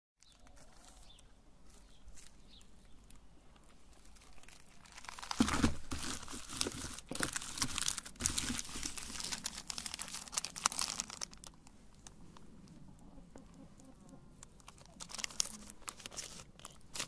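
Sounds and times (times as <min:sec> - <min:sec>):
wrappers crinkling: 0:00.2 - 0:12.2, 0:14.6 - 0:17.0.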